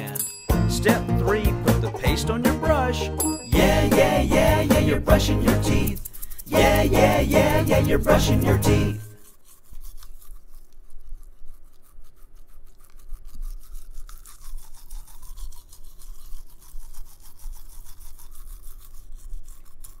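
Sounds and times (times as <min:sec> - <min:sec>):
toothbrush scrubbing teeth: 0:03.5 - 0:20.0.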